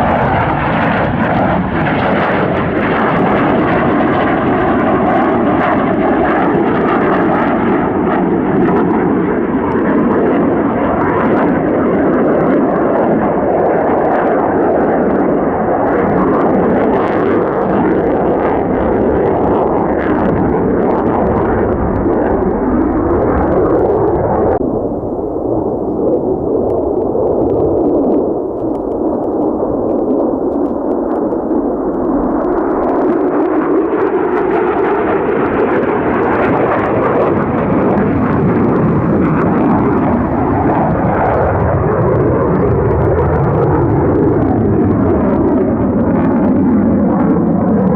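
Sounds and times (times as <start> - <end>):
fighter jet engine roar: 0.0 - 47.9.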